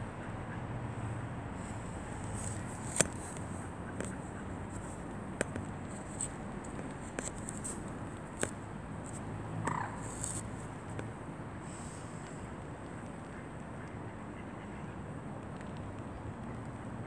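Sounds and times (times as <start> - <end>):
outdoor background hiss: 0.0 - 15.3.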